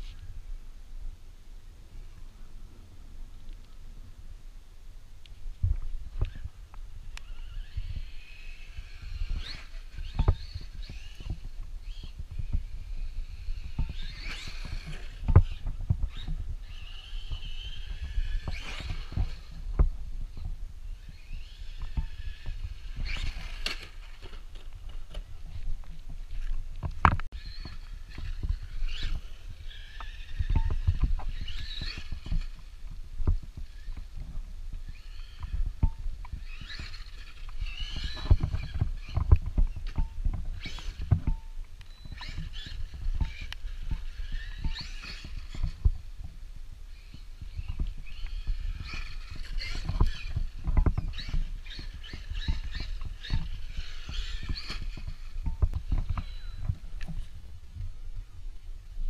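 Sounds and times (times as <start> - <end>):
electric motor whine: 6.1 - 58.6.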